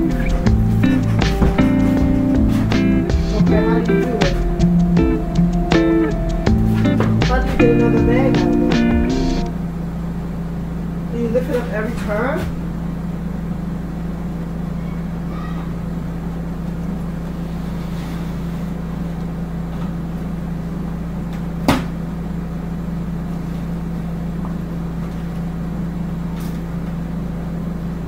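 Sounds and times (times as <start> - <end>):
low electric hum: 0.0 - 28.0.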